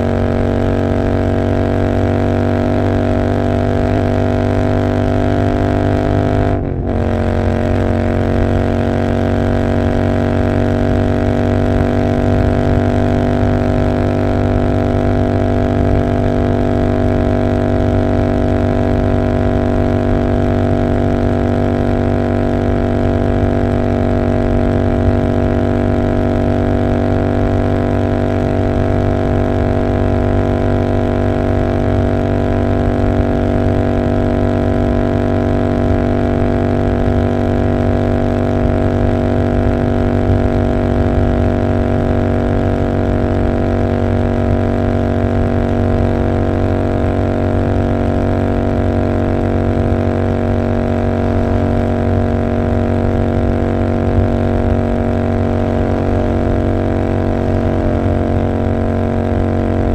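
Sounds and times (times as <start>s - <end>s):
motorcycle exhaust drone: 0.0s - 59.9s.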